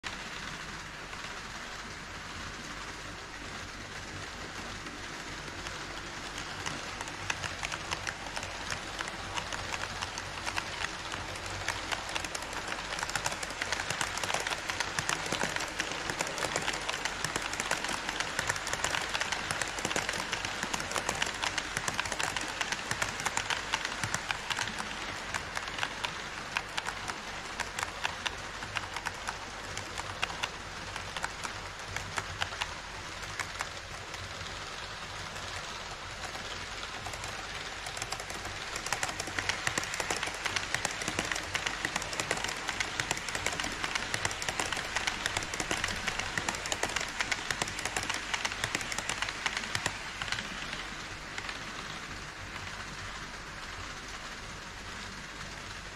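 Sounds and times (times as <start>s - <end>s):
model train wheels clicking on rails: 0.0s - 55.9s.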